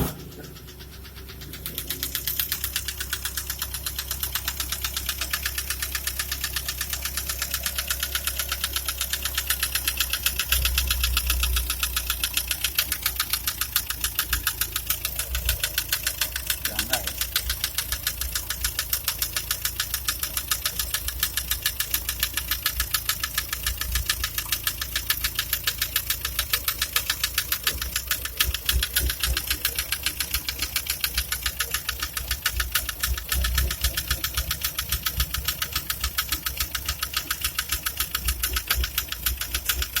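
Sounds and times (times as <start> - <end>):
engine running with ticking knock: 0.0 - 40.0.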